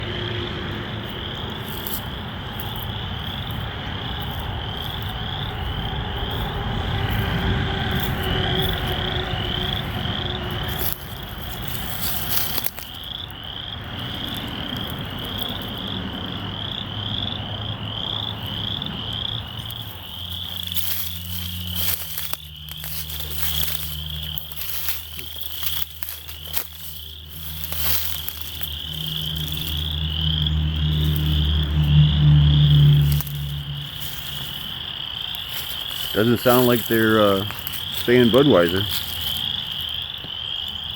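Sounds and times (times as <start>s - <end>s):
frogs calling: 0.0s - 40.9s.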